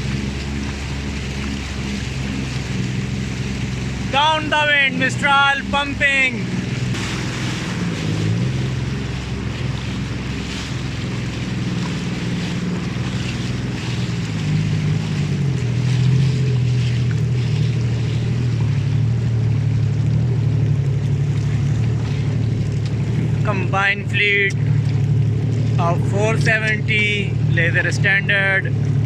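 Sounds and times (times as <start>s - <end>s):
motorboat engine running: 0.0s - 29.0s
water rushing past hull: 0.0s - 29.0s.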